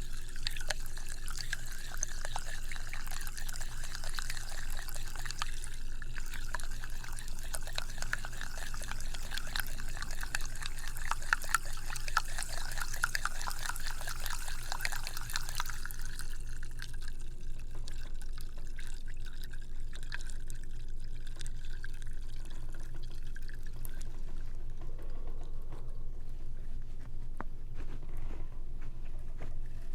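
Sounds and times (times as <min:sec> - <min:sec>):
wet crackling liquid sounds: 0:00.0 - 0:29.9.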